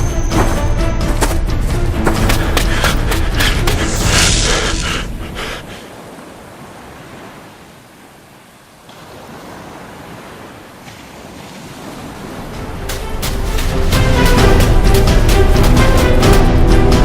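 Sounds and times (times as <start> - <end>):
sea waves washing in: 2.2 - 17.0.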